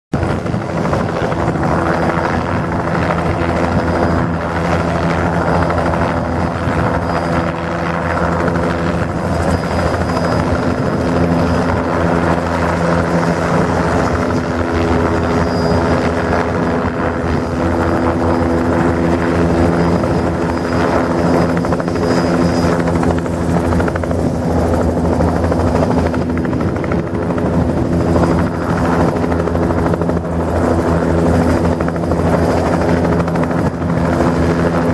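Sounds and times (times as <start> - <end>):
helicopter rotor beating: 0.2 - 34.9
turboshaft engine whine: 0.2 - 34.9.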